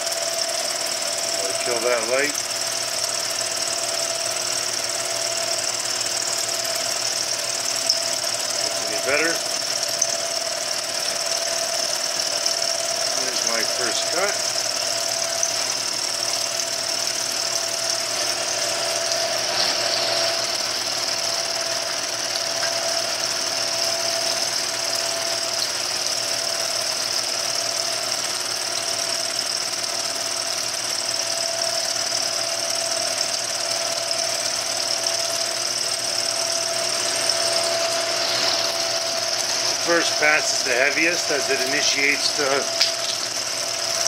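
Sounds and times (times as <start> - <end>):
milling machine cutting metal: 0.0 - 44.0.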